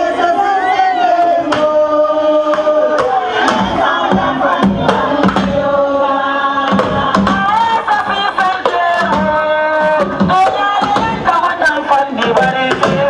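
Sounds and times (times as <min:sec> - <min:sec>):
crowd noise: 0:00.0 - 0:13.0
person singing long notes: 0:00.0 - 0:13.0
loud dance music: 0:01.3 - 0:13.0
drum beats: 0:01.4 - 0:13.0.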